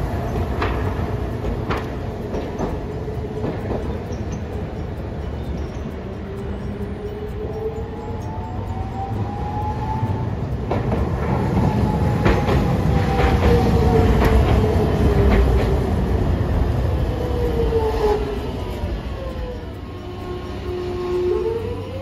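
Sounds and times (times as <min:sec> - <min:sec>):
tram wheels rumbling on rails: 0:00.0 - 0:22.0
wheels clicking over track: 0:00.0 - 0:22.0.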